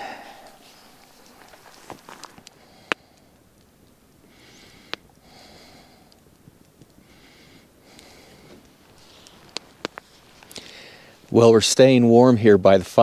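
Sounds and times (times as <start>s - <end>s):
soft hissing: 0.0s - 11.6s
campfire crackling: 0.0s - 13.0s.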